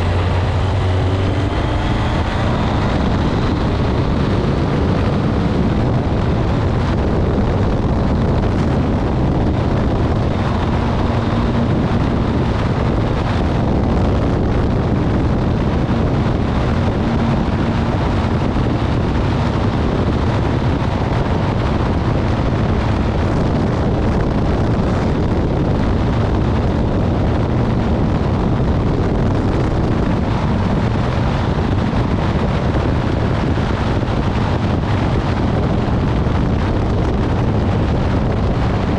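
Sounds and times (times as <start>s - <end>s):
motorcycle engine: 0.0s - 38.9s
wind rushing over microphone: 0.0s - 38.9s.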